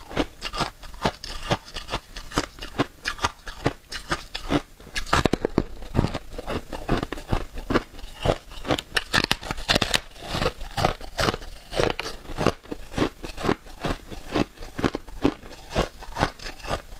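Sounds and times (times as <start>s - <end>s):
frost crunching being chewed: 0.0s - 16.9s.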